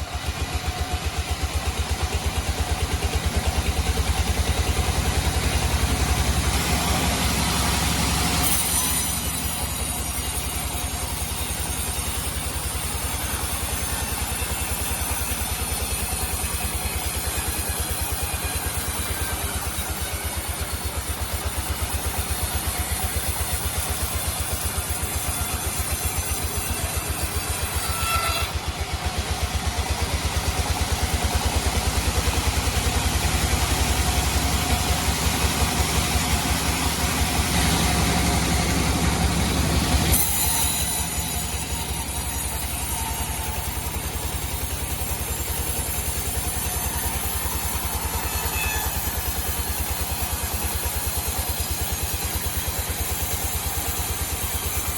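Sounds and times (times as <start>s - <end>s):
sawmill engine pulsing: 0.0s - 54.9s.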